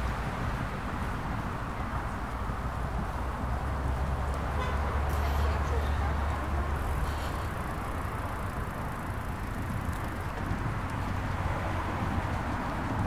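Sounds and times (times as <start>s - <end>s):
road noise: 0.0s - 13.0s
rushing wind: 0.0s - 13.0s
street traffic: 0.0s - 13.0s.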